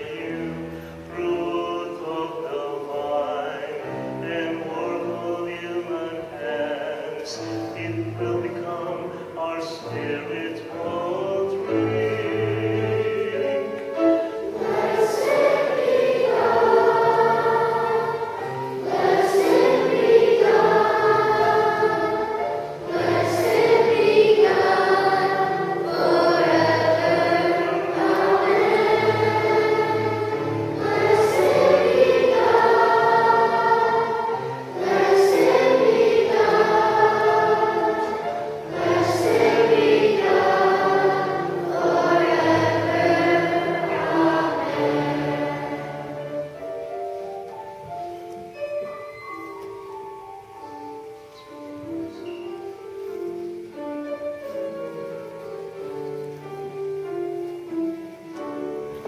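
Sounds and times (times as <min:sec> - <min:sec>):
choir singing a hymn: 0:00.0 - 0:48.6.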